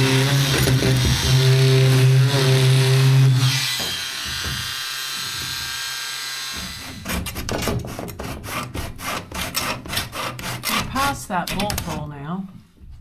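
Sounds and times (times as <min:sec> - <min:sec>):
wire sawing through sealant: 0:00.0 - 0:12.0.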